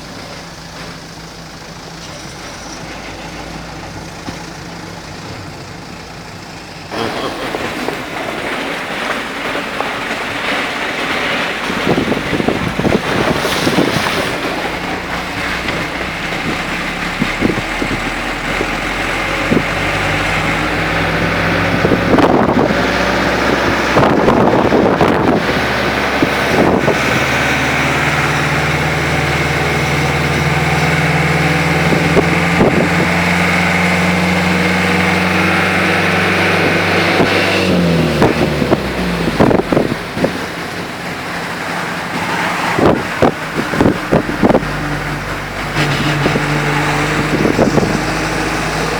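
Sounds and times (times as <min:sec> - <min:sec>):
car engine hum: 0:00.0 - 0:48.9
tyres hissing on wet road: 0:00.0 - 0:48.9.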